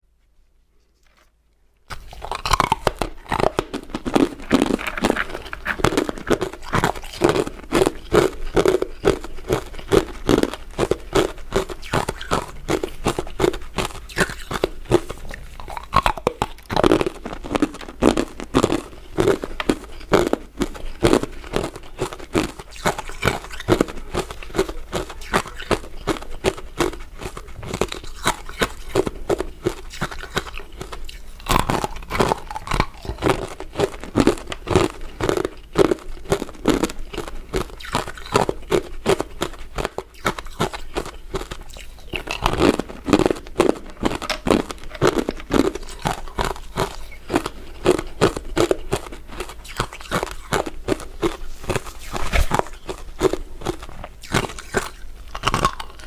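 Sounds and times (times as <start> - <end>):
crunching ice dessert: 1.9 - 56.0.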